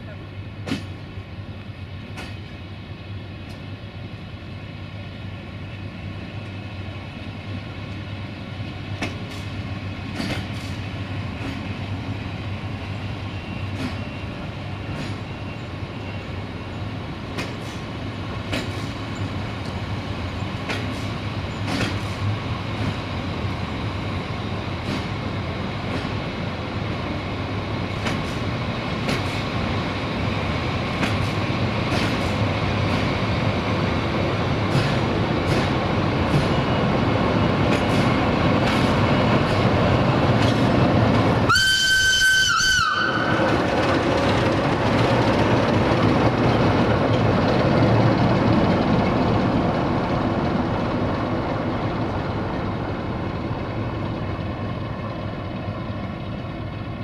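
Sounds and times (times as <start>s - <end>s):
train coaches rolling past: 0.0s - 57.0s.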